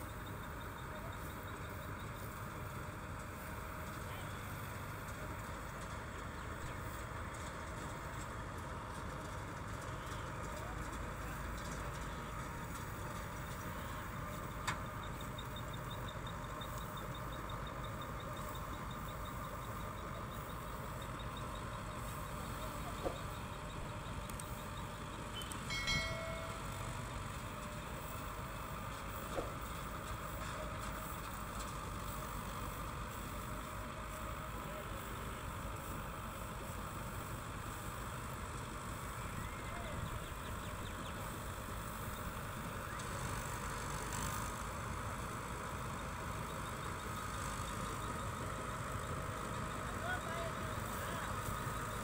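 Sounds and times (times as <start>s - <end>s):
distant harvester rumbling: 0.0s - 52.0s.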